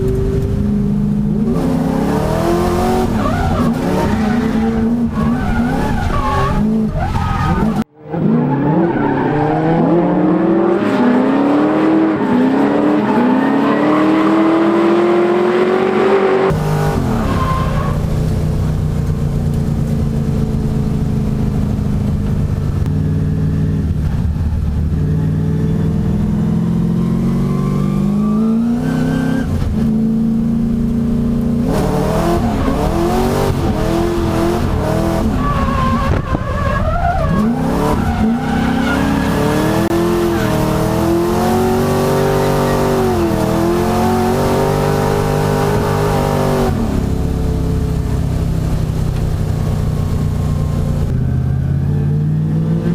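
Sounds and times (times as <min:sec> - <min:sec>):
car engines revving high: 0:00.0 - 0:52.9.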